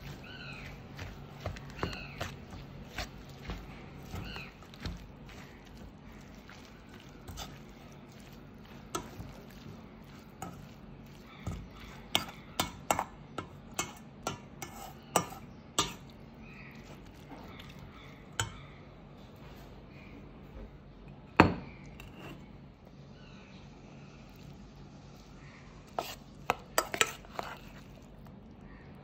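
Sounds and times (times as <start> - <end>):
soft stirring of salad: 0.0 - 29.0.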